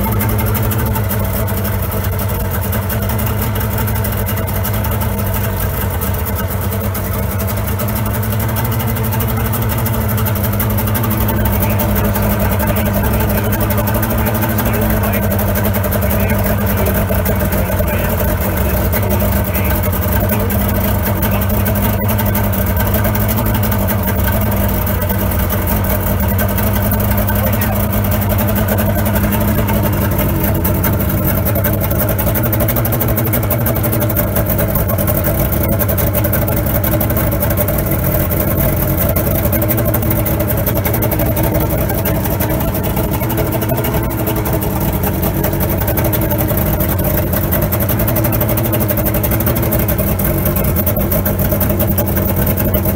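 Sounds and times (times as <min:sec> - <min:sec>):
muffled outboard motor running: 0:00.0 - 0:52.9.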